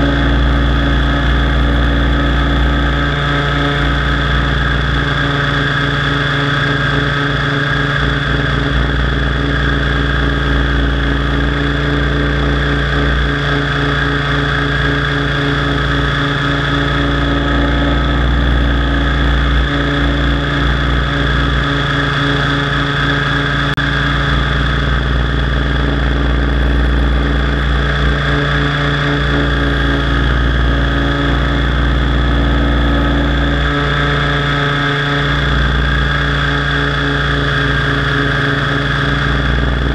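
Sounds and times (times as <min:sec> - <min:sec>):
model helicopter flying: 0:00.0 - 0:39.9.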